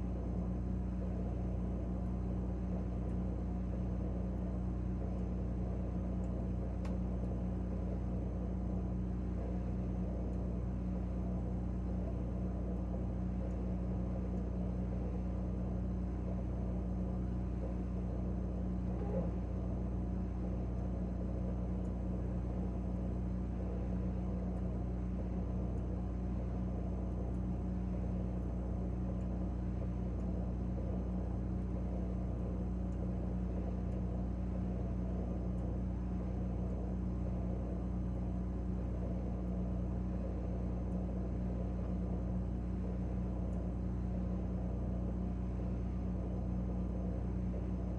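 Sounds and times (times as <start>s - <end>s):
refrigerator humming: 0.0s - 47.9s.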